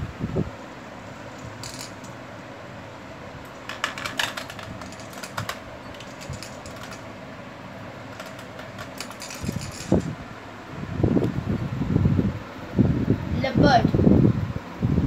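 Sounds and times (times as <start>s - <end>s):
room fan humming: 0.0s - 15.0s.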